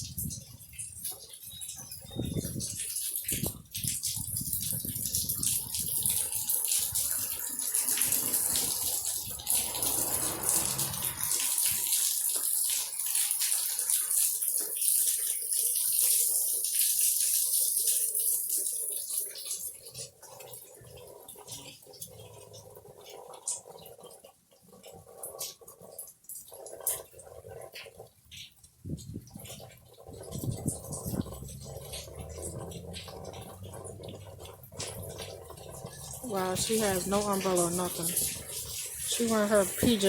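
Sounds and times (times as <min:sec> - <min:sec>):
heavy rain splashing: 0:00.0 - 0:40.0.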